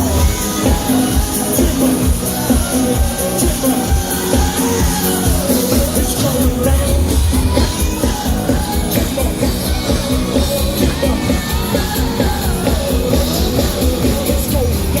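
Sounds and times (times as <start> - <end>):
live dance-pop music: 0.0 - 15.0
person singing: 0.0 - 15.0.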